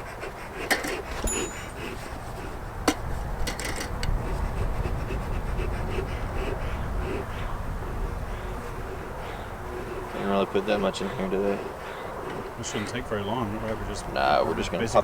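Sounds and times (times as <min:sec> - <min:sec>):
bellows puffing whoosh: 0:00.0 - 0:15.0.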